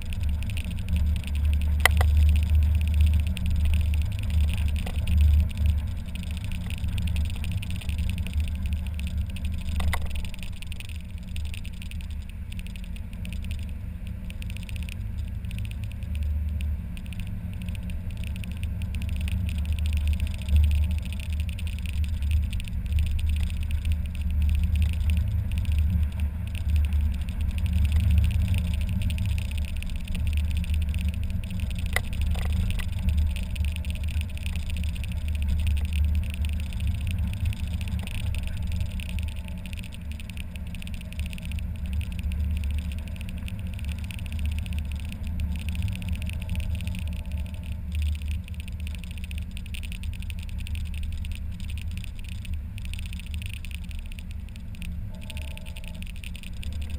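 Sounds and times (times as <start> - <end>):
car engine drone: 0.0 - 56.9
road and wind rumble: 0.0 - 56.9
faint click: 0.1 - 56.9.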